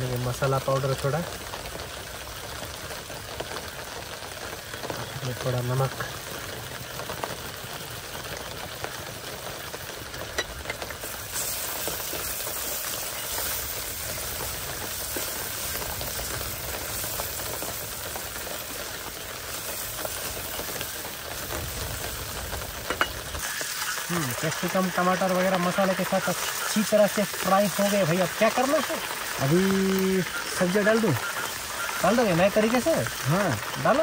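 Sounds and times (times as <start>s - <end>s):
vegetables sizzling in a pan: 0.0s - 34.0s.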